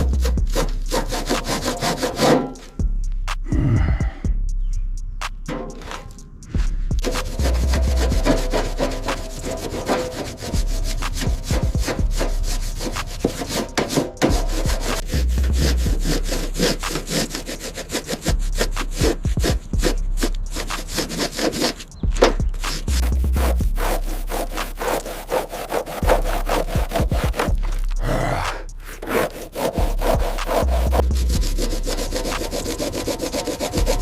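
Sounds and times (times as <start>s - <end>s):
rapid scraping strokes: 0.0s - 3.5s, 5.2s - 34.0s.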